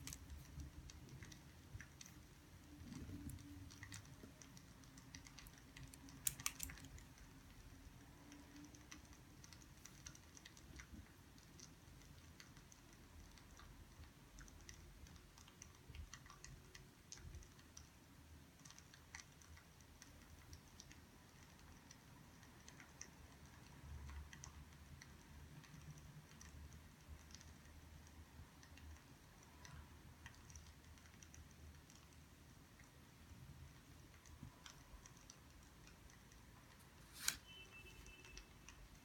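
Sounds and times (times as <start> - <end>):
faint light clicks and ticks: 0.0 - 39.0
low steady hum: 0.0 - 39.0.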